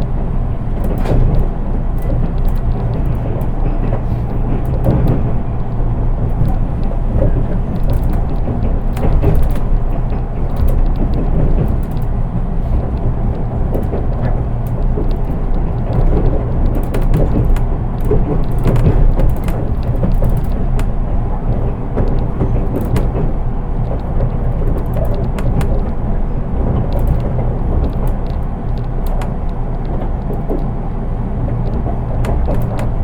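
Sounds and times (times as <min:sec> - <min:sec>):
train interior rumble: 0:00.0 - 0:33.0
wheel clicks and knocks: 0:00.0 - 0:33.0.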